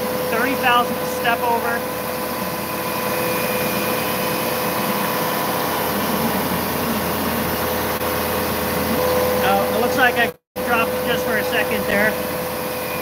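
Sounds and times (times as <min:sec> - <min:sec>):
mill cutting steel: 0:00.0 - 0:13.0
mist coolant blowing: 0:00.0 - 0:13.0.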